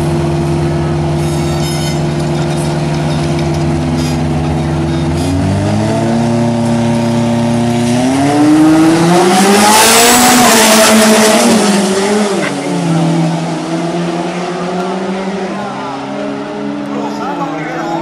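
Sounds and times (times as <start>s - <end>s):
diesel truck engines revving: 0.0s - 18.0s.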